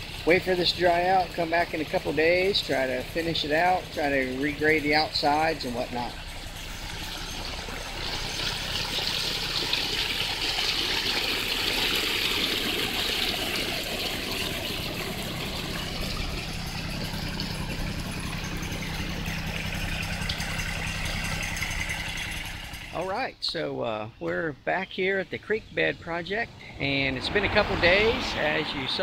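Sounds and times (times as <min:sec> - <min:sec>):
water rushing down creek bed: 0:00.0 - 0:23.3, 0:26.6 - 0:29.0
tractor engine idling: 0:00.0 - 0:29.0.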